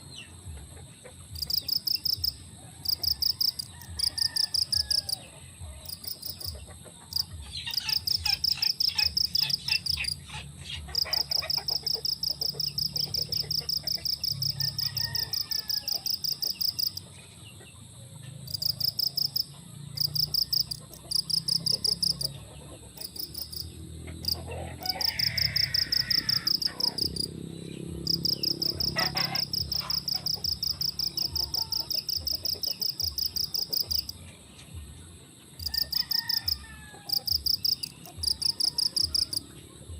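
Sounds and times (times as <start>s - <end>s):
insects chirping: 0.1s - 39.9s.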